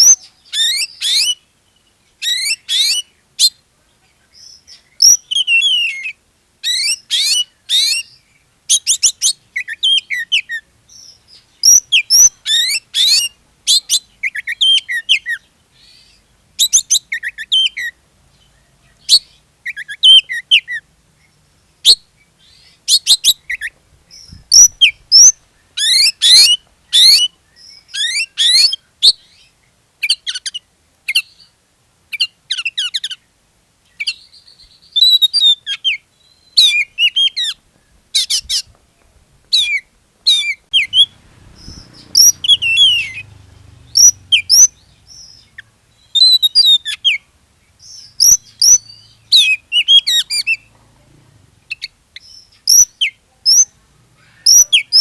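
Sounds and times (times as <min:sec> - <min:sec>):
songbird whistling and chattering: 0:00.0 - 0:01.4, 0:02.2 - 0:03.6, 0:04.3 - 0:18.0, 0:19.0 - 0:20.8, 0:21.8 - 0:31.5, 0:34.0 - 0:37.6, 0:39.5 - 0:50.7, 0:51.7 - 0:55.0.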